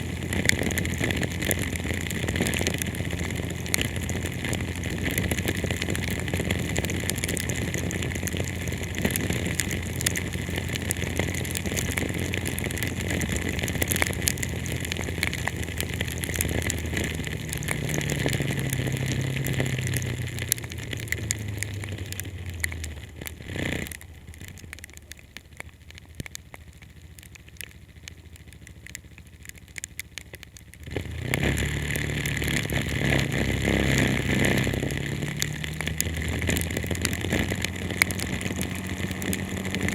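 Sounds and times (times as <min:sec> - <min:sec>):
car engine: 0:00.0 - 0:39.9
heavy rain on a car: 0:00.0 - 0:39.9
road noise: 0:00.0 - 0:39.9.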